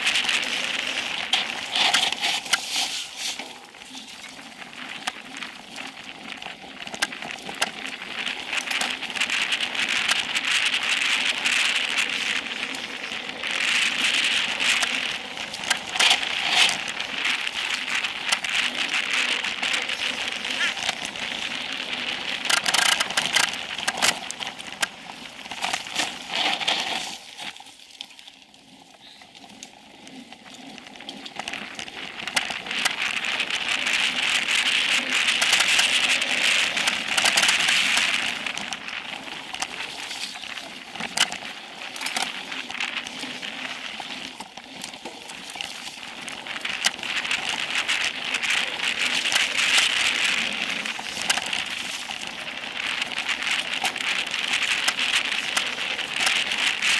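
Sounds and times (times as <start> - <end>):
bike rattling and knocking: 0.0 - 27.6, 30.1 - 56.9
bike tyres crunching over dirt: 0.0 - 56.9.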